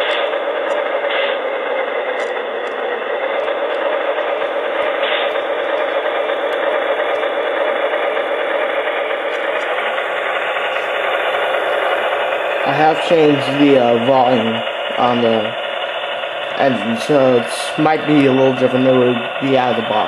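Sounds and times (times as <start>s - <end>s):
diesel engine idling through small speaker: 0.0s - 20.0s.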